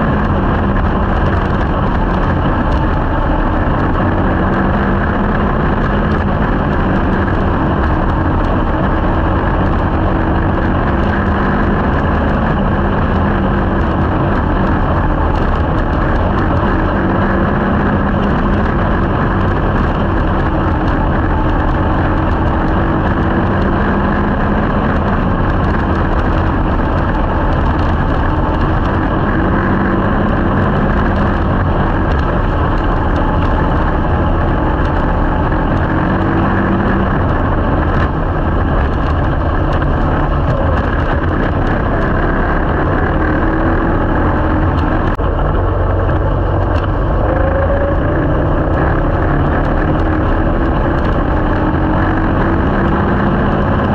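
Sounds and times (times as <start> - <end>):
race car engine running: 0.0 - 53.9.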